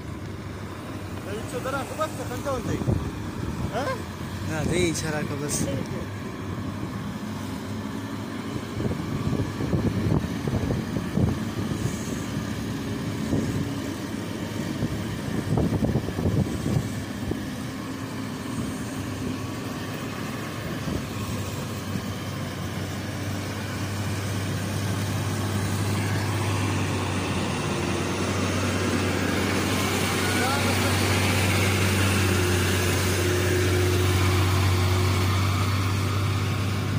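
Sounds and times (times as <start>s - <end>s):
diesel truck engine straining uphill: 0.0s - 36.9s.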